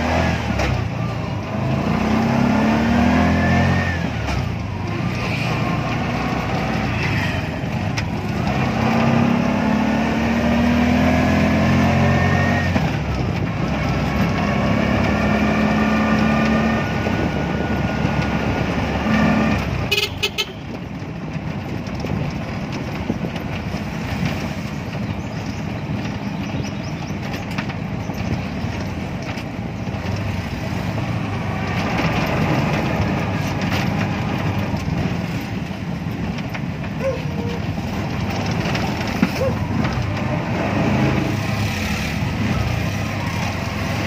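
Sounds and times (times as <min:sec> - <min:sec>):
rough rumbling drive noise: 0:00.0 - 0:44.0.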